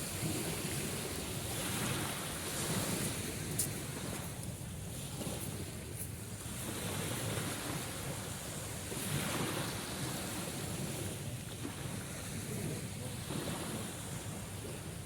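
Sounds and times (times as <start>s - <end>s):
sea waves washing in: 0.0s - 15.0s
wind: 0.0s - 15.0s.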